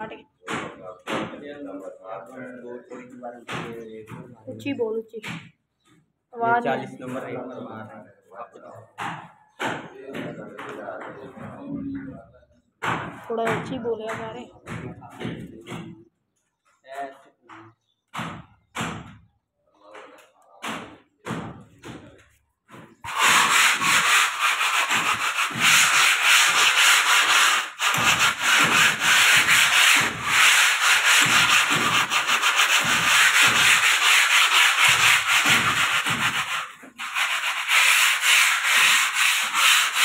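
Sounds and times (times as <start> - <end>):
rubbing on rough concrete: 0.0 - 40.0.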